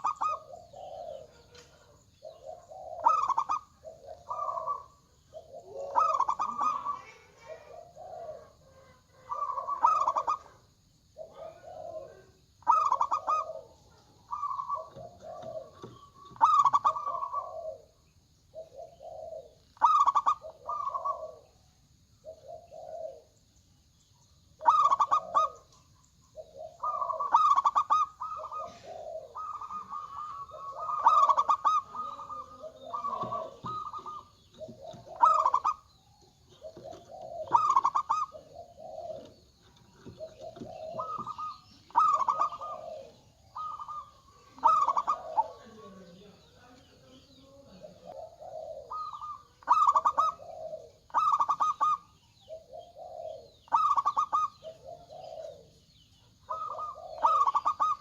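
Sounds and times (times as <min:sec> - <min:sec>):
doves cooing: 0:00.0 - 0:23.6, 0:24.2 - 0:58.0.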